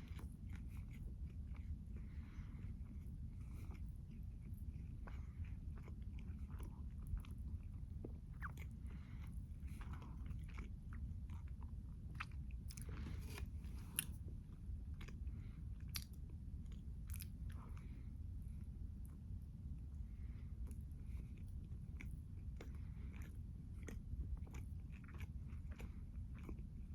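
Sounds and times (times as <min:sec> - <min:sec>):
chewing and biting: 0:00.0 - 0:17.9, 0:20.6 - 0:26.9
low steady hum: 0:00.0 - 0:26.9.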